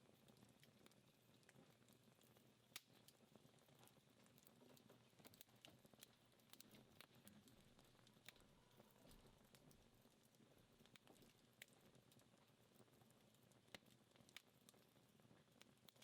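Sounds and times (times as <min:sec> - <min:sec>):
embers crackling and popping: 0:00.2 - 0:16.0
wood fire crackling: 0:00.2 - 0:16.0.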